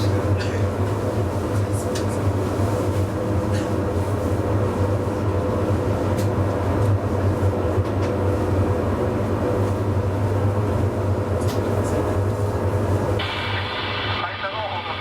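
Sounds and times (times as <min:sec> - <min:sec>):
tram running on track: 0:00.0 - 0:15.0.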